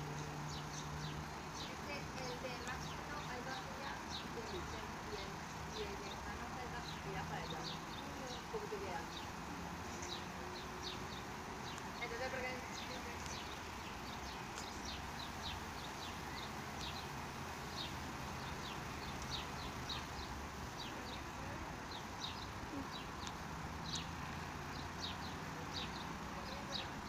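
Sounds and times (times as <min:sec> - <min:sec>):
background traffic hum: 0:00.0 - 0:27.0
small birds chirping: 0:00.0 - 0:27.0.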